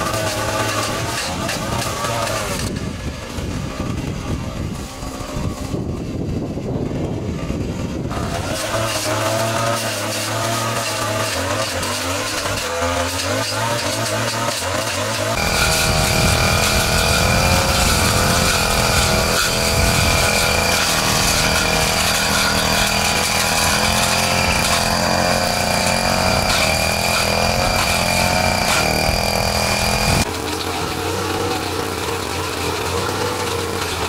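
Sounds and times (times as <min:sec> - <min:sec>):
small engine running at high speed: 0:00.0 - 0:34.0.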